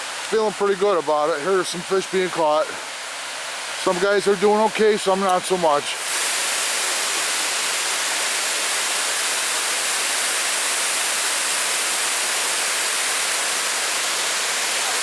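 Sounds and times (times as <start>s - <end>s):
water pouring over dam: 0.0s - 15.0s.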